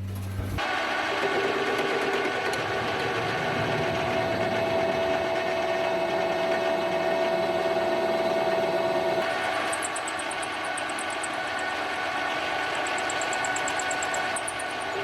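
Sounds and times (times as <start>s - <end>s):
lathe high whine: 0.6s - 15.0s
lathe machine hum: 0.6s - 15.0s.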